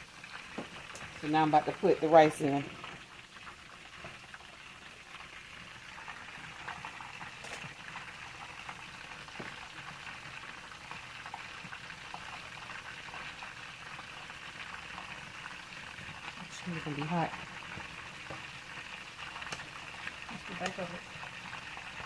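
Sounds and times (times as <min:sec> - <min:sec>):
crackles and pops: 0:00.0 - 0:02.0, 0:02.6 - 0:22.0
food sizzling in hot fat: 0:00.0 - 0:22.0.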